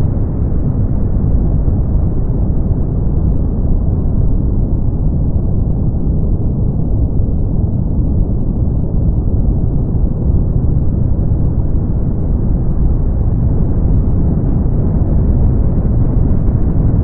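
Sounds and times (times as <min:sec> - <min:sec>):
brown noise rumble: 0:00.0 - 0:17.0.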